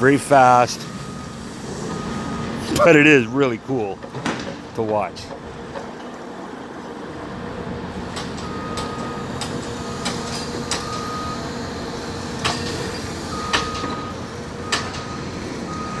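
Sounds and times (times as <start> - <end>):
crane diesel engine running: 0.0 - 4.2, 5.3 - 16.0.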